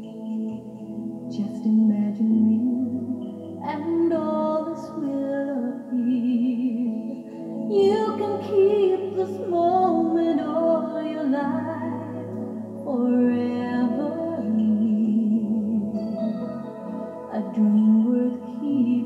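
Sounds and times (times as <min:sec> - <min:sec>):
soft accompaniment: 0:00.0 - 0:19.0
woman singing with vibrato: 0:01.3 - 0:19.0.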